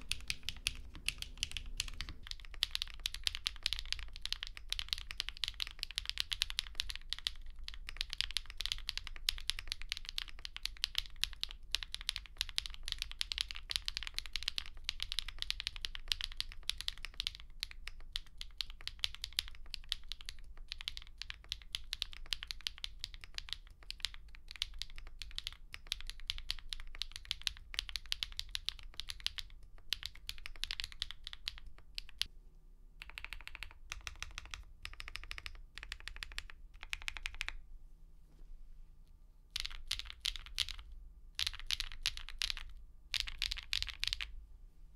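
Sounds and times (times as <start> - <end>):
typing on mechanical keyboard: 0.0 - 32.3, 33.0 - 37.6, 39.6 - 44.3.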